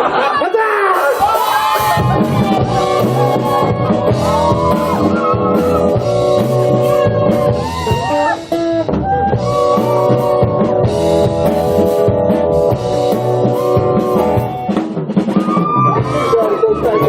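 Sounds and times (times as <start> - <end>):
drum kit steady beat: 0.0 - 17.0
rock band music: 0.7 - 17.0.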